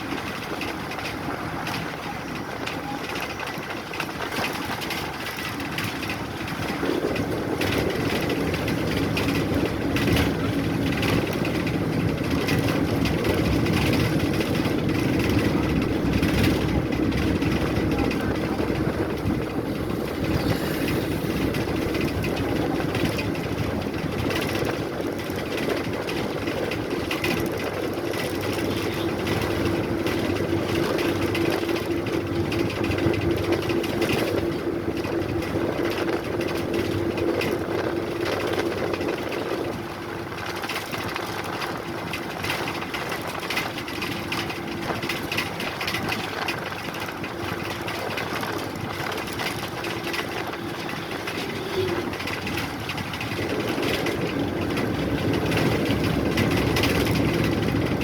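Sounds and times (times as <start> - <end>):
bodywork rattling: 0.0 - 58.0
bus engine drone and whine: 0.0 - 58.0.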